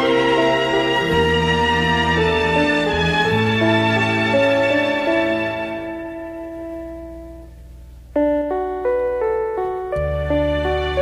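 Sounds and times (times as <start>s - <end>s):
low steady bass tone: 0.0s - 11.0s.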